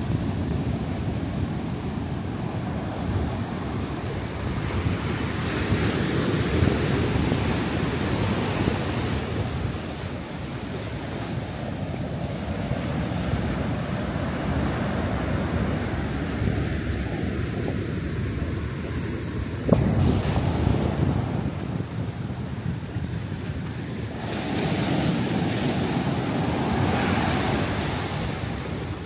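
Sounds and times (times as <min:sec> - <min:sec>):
ocean surf breaking: 0:00.0 - 0:29.0
wind buffeting microphone: 0:00.0 - 0:29.0.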